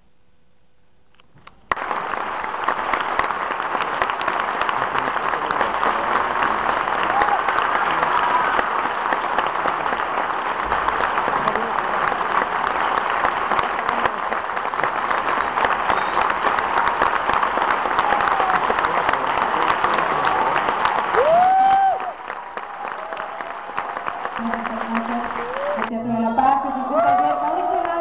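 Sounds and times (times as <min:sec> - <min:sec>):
audience applauding: 0:01.7 - 0:28.0.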